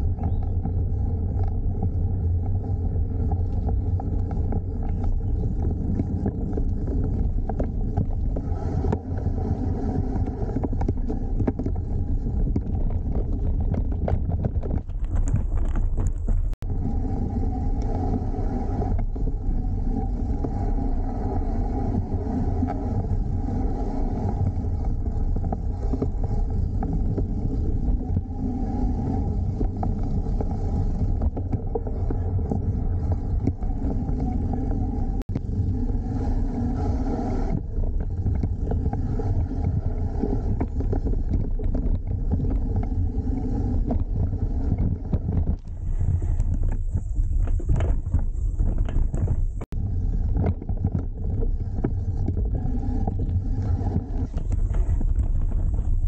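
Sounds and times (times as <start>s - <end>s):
bicycle tyres rumbling: 0.0s - 56.0s.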